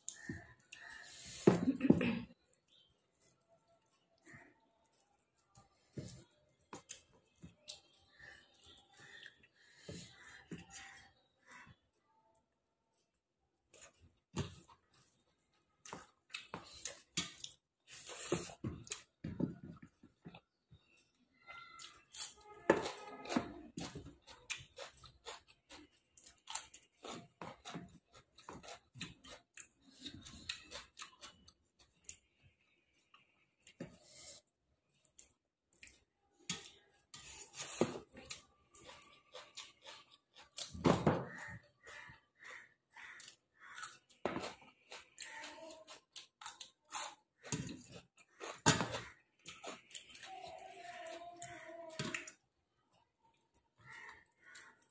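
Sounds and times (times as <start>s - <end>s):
person chewing crisp food: 0.0s - 1.7s, 2.3s - 54.9s.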